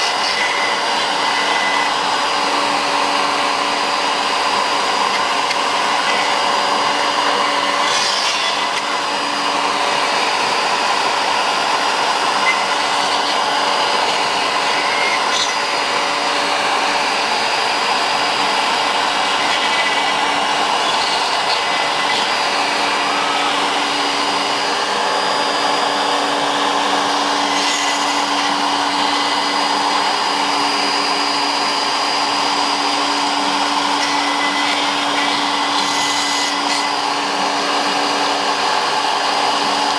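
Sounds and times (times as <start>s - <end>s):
router motor whine and hiss: 0.0s - 39.9s.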